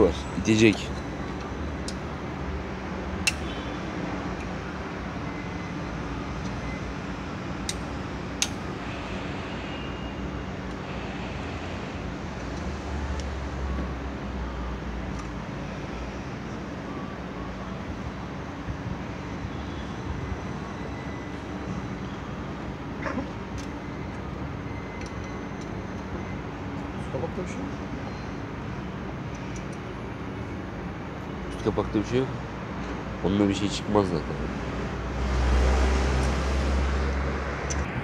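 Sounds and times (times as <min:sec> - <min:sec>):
traffic hum: 0:00.0 - 0:38.0.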